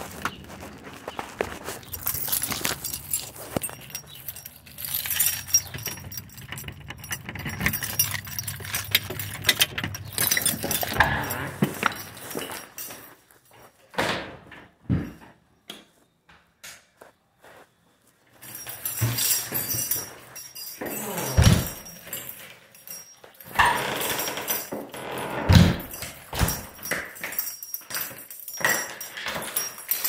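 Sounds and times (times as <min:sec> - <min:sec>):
jangling and clinking: 0:00.1 - 0:13.9, 0:18.3 - 0:30.0.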